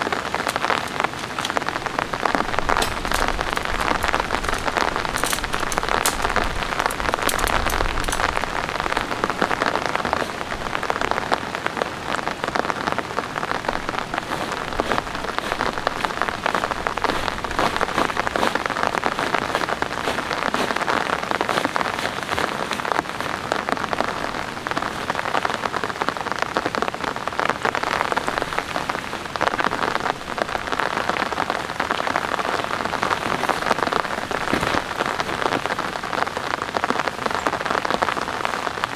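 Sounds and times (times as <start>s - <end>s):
heavy rain patter: 0.0s - 38.9s.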